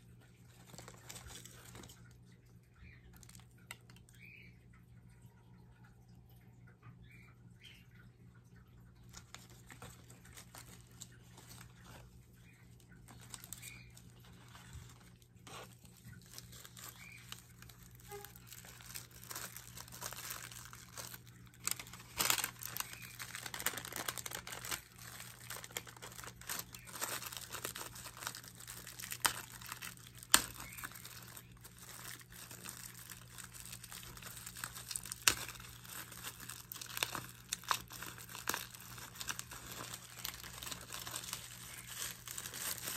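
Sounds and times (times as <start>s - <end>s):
paper crinkling and rustling: 0.1s - 4.4s, 8.9s - 42.9s.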